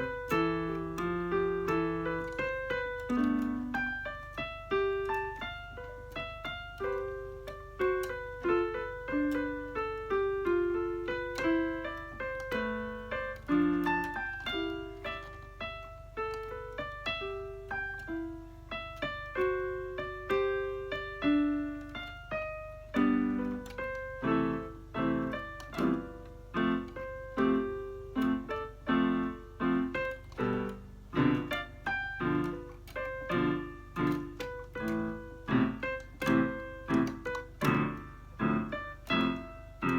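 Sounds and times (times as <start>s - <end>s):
electronic keyboard piano: 0.0s - 39.9s.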